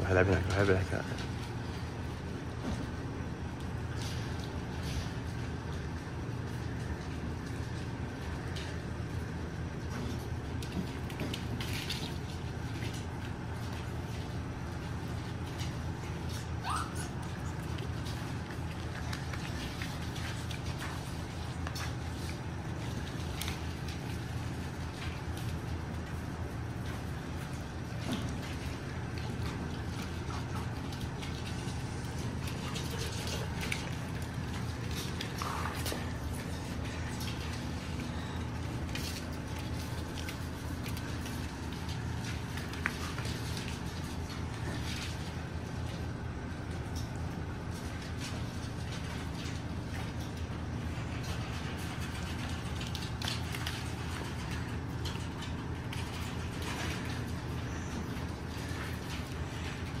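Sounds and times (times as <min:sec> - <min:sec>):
steady low hum: 0:00.0 - 1:00.0
puppy claws on laminate floor: 0:03.6 - 1:00.0.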